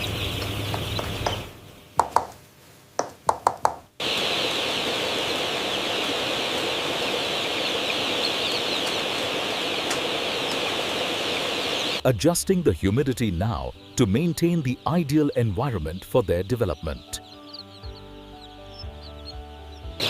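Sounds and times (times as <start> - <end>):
chicks peeping: 0.0 - 2.3, 3.4 - 20.0.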